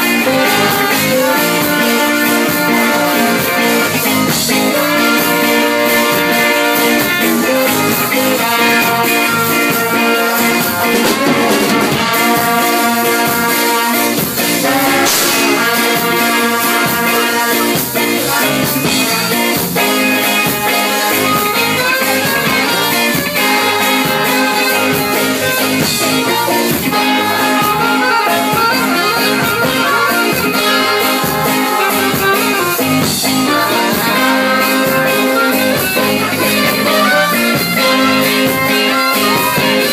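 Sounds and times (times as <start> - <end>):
horns holding melody notes: 0.0 - 39.9
live band playing: 0.0 - 39.9.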